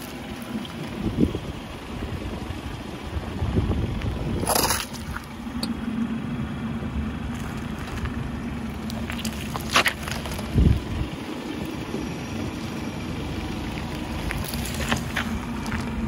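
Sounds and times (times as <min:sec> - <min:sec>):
car tyre rolling on asphalt: 0:00.0 - 0:16.0
low engine hum: 0:00.0 - 0:16.0.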